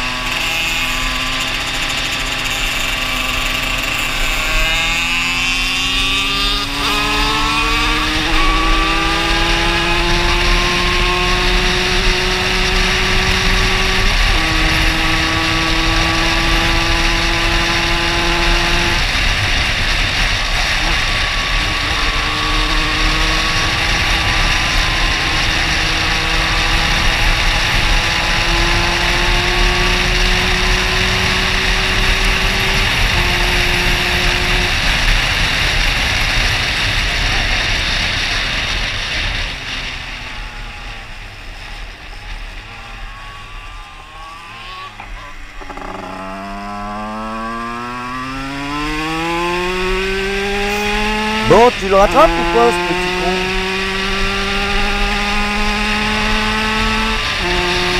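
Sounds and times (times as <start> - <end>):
moped engine revving: 0.0 - 57.9.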